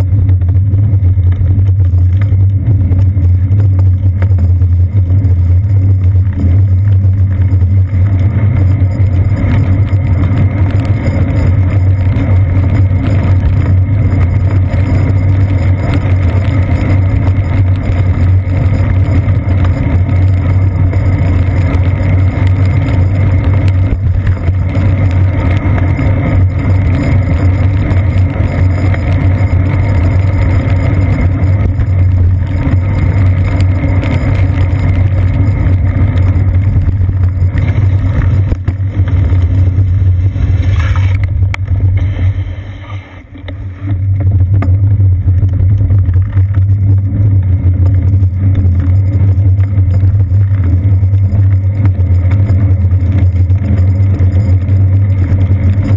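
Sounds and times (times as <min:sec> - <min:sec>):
traffic noise: 0:00.0 - 0:49.7
bicycle rumble on wet pavement: 0:00.0 - 0:55.9
wind noise: 0:00.0 - 0:55.9.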